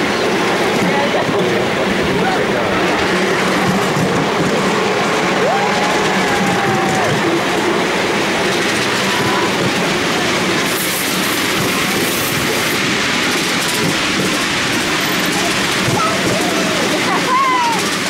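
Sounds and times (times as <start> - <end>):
wheels on rail: 0.0 - 18.0.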